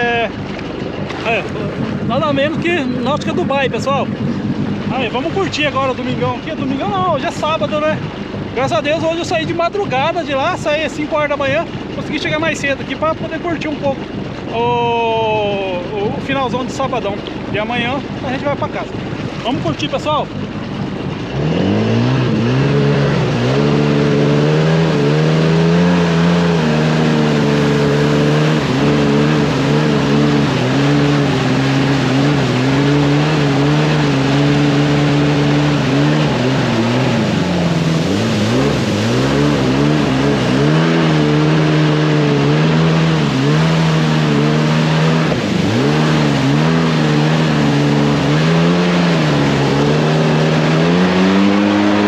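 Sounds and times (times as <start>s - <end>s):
jet ski engine revving: 0.0s - 52.0s.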